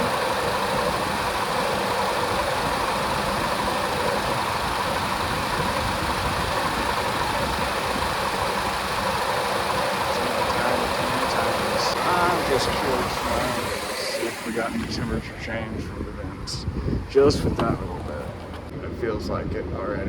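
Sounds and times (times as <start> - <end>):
car engine idling: 0.0 - 18.7
air conditioning running: 0.0 - 20.0.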